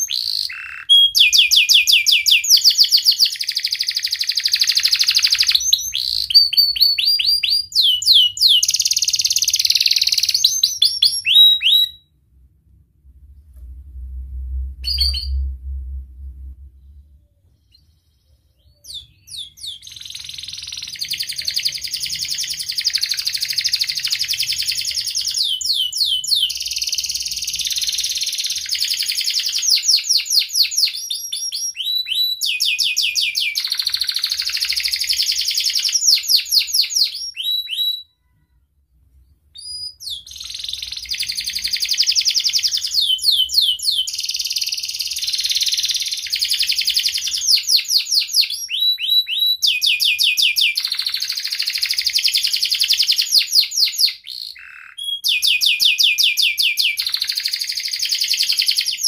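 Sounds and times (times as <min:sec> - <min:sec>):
canary singing trills: 0:00.0 - 0:12.0, 0:17.5 - 0:38.3, 0:39.6 - 0:59.0.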